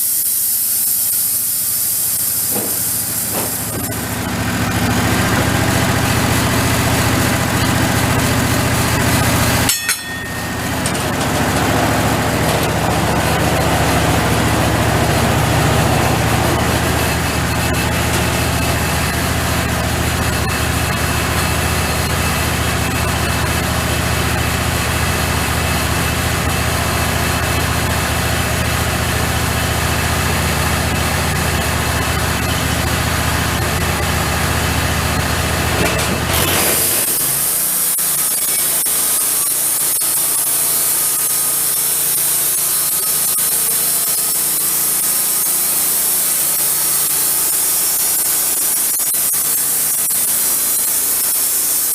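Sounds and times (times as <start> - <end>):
band sawmill engine running: 0.0 - 51.9.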